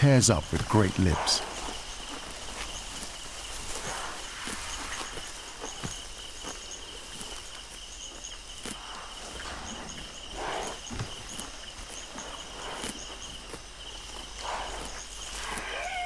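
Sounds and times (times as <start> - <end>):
night insects trilling: 0.0 - 16.0
hippopotamuses tearing grass: 0.1 - 16.0
faint chirping: 0.3 - 16.0.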